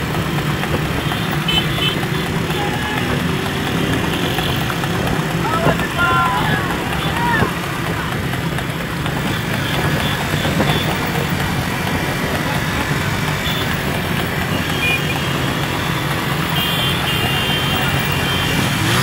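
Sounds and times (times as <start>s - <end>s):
motorcycle engines running: 0.0s - 19.0s
wind and road noise: 0.0s - 19.0s.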